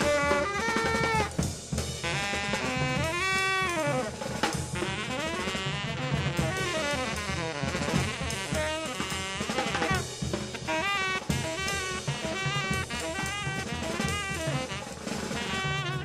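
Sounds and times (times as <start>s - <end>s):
brass-like melody: 0.0s - 16.0s
steady drum beat: 0.0s - 16.0s.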